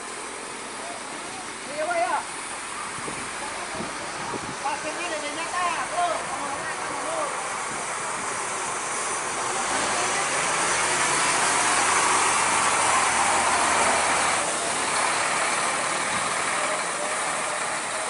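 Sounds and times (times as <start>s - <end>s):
strong hiss: 0.0s - 18.0s
truck engine running: 0.0s - 18.0s.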